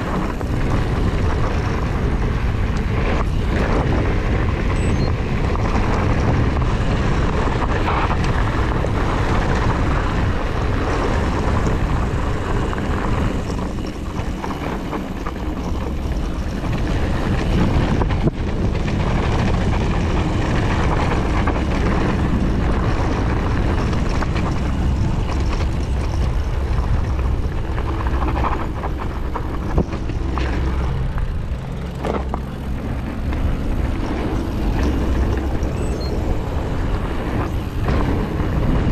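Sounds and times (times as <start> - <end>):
bike rattling: 0.0 - 38.9
wind rumbling on microphone: 0.0 - 38.9.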